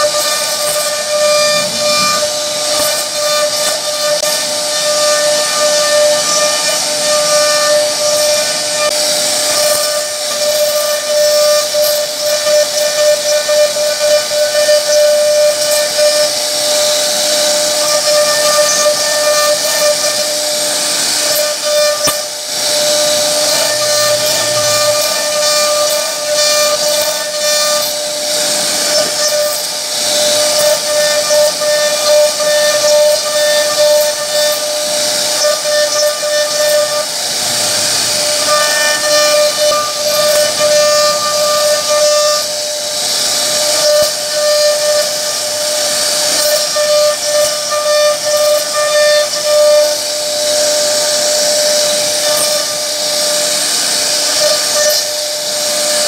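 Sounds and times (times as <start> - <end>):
bit cutting wood hiss: 0.0 - 56.0
router spindle whining: 0.0 - 56.0.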